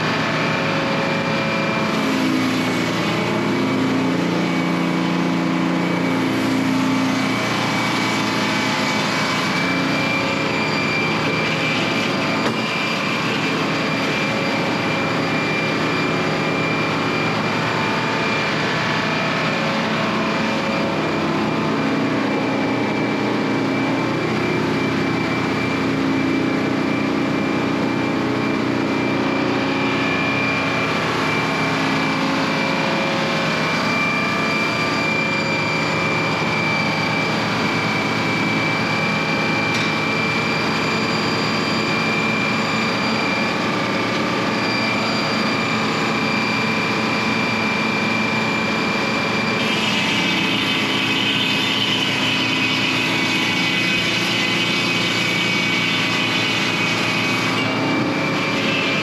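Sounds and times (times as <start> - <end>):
engine running: 0.0 - 59.0
constant high tone: 7.0 - 59.0.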